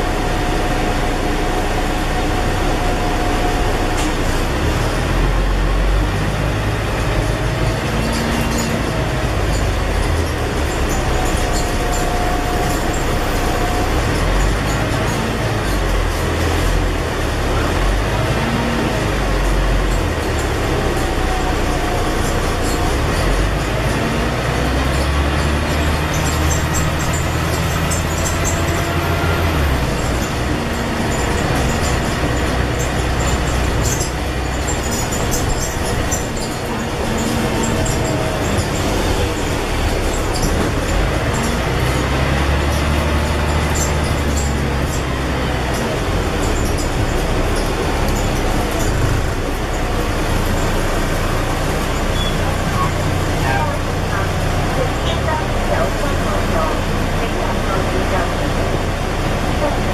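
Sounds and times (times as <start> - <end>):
bus diesel engine rumble: 0.0 - 59.9
road noise: 0.0 - 59.9.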